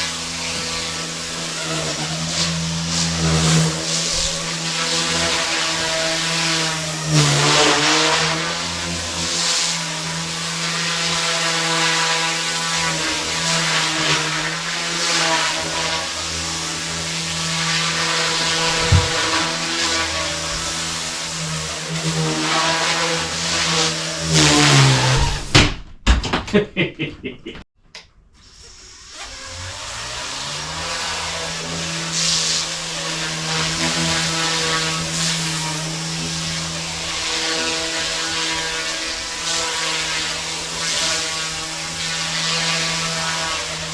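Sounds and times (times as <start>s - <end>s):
micro helicopter motor whine: 0.0s - 25.5s, 28.8s - 43.9s.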